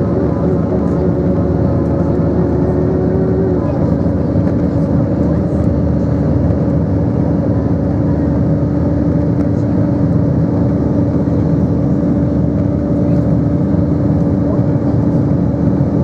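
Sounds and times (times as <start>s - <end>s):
constant low hum: 0.0s - 16.0s
engine and airflow noise in cabin: 0.0s - 16.0s.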